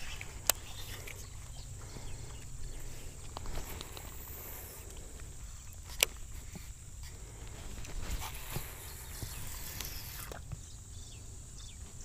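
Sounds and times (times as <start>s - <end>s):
camera handling rumble and rustling: 0.0s - 10.7s.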